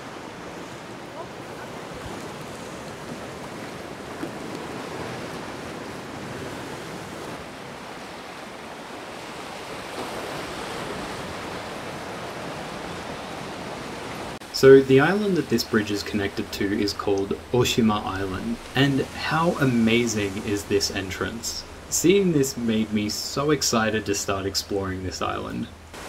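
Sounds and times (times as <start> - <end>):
sea waves washing over rocks: 0.0 - 26.0.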